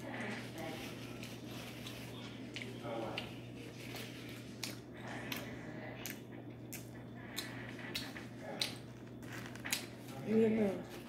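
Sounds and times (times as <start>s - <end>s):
steady low hum: 0.0s - 11.0s
person chewing wetly: 1.1s - 10.2s.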